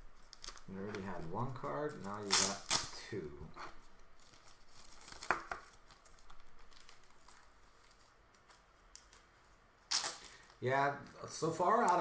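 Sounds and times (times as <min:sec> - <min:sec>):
plastic sleeves crinkling: 0:00.0 - 0:03.1, 0:03.8 - 0:10.6.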